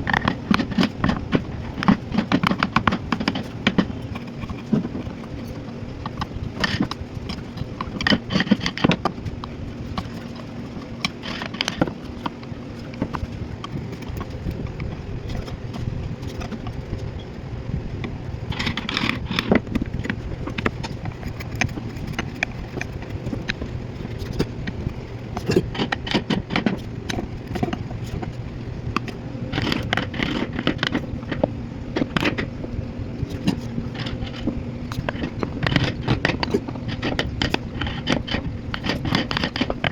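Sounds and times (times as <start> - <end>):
steady low hum: 0.0 - 39.9
wood scraping: 0.0 - 39.9.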